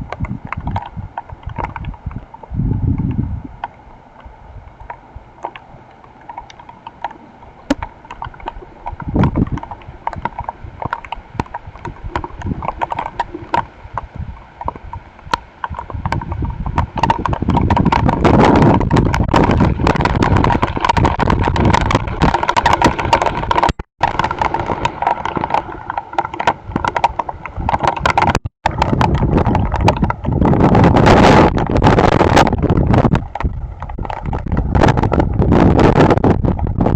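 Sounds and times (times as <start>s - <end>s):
wind rumble on microphone: 0.0s - 36.9s.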